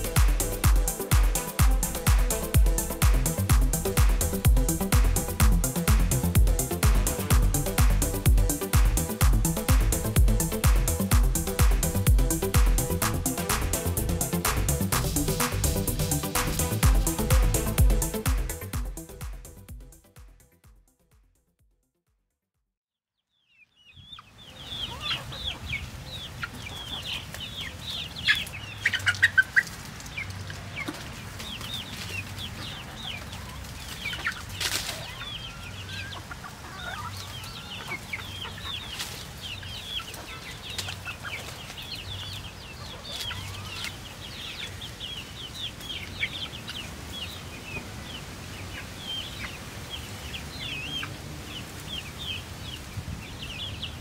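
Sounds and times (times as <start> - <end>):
chicks cheeping and clucking: 0.0 - 19.2, 23.3 - 54.0.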